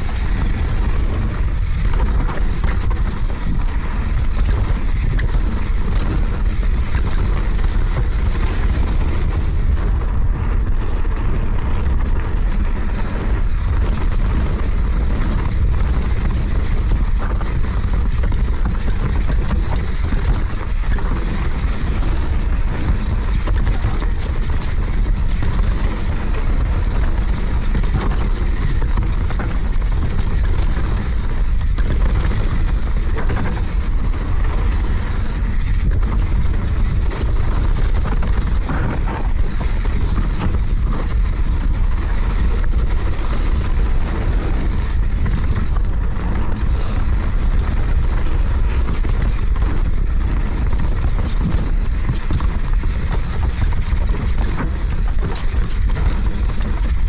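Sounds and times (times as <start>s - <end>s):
bike knocking and rattling: 0.0s - 57.0s
tyres on dirt and roots: 0.0s - 57.0s
wind on microphone: 0.0s - 57.0s.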